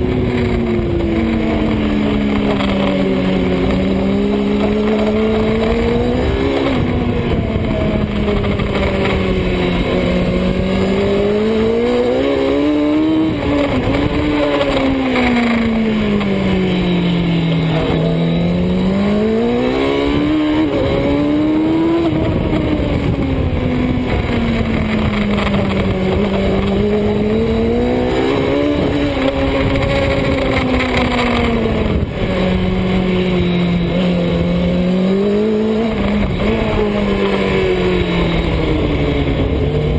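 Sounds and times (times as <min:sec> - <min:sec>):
constant rushing noise: 0:00.0 - 0:39.9
motorcycle engine accelerating: 0:00.0 - 0:39.9.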